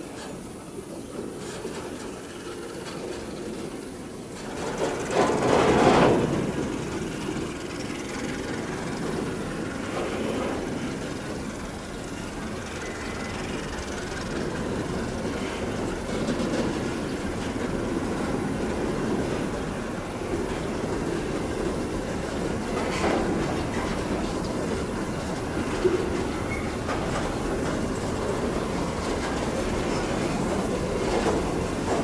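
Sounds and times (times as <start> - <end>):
diesel locomotive rumbling: 0.0 - 32.0.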